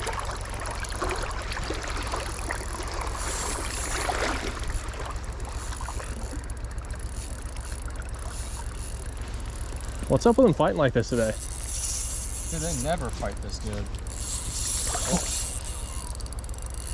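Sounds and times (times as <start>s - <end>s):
flowing creek water: 0.0s - 11.9s, 12.5s - 16.2s.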